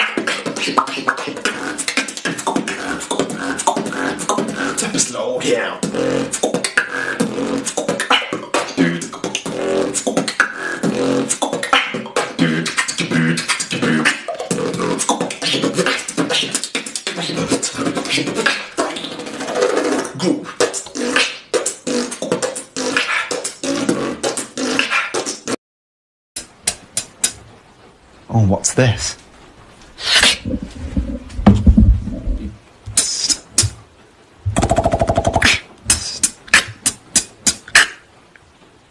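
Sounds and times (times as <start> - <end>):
person beatboxing: 0.0 - 25.6, 26.4 - 27.4, 30.0 - 33.8, 34.5 - 38.0.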